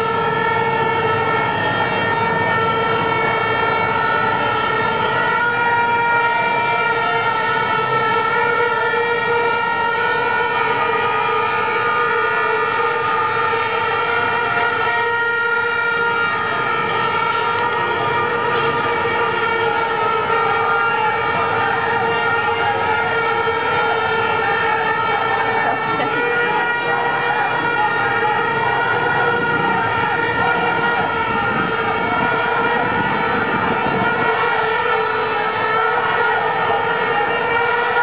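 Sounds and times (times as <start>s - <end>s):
marching crowd noise: 0.0s - 38.0s.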